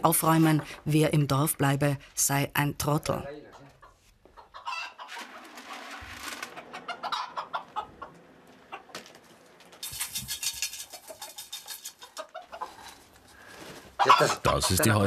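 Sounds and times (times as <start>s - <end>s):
hens clucking: 0.0s - 1.4s, 2.8s - 9.8s, 10.8s - 15.0s.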